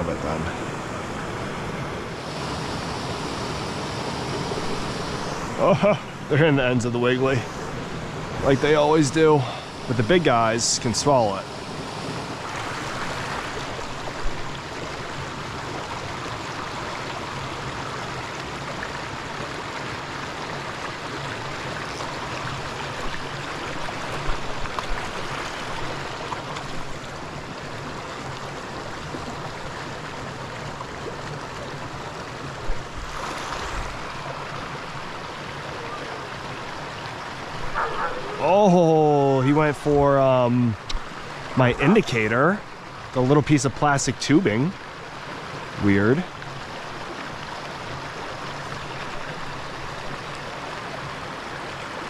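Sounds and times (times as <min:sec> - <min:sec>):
stream running over rocks: 0:00.0 - 0:52.0.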